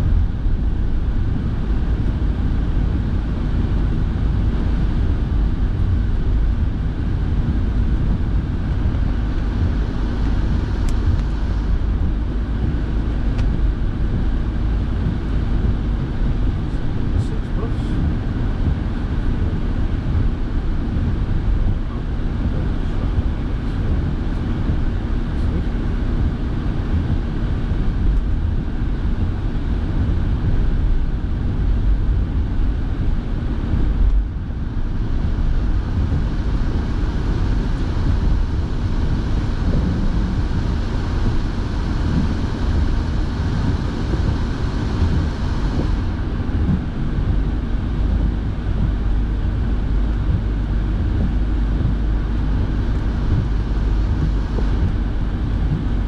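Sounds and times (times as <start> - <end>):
car engine and tyre rumble: 0.0 - 56.0
heater fan blowing: 0.0 - 56.0.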